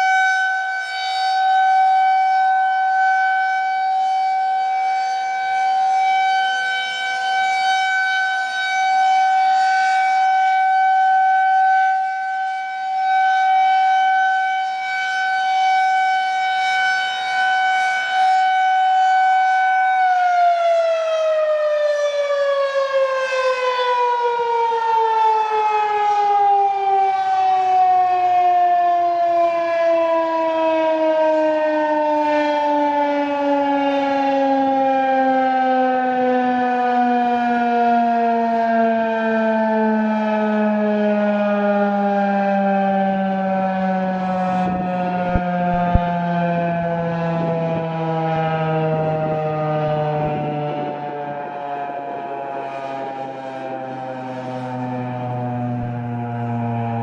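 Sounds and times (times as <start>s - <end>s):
warning siren: 0.0s - 57.0s.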